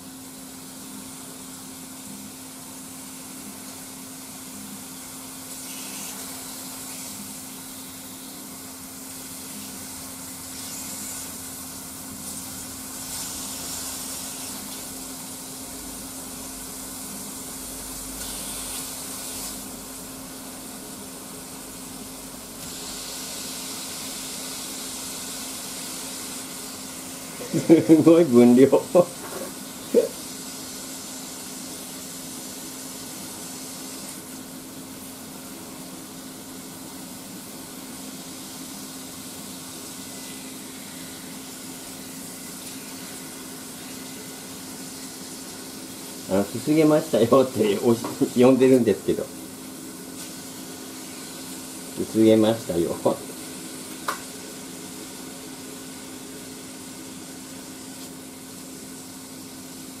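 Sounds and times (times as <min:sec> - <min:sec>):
meat sizzling in a frying pan: 0:00.1 - 1:00.0.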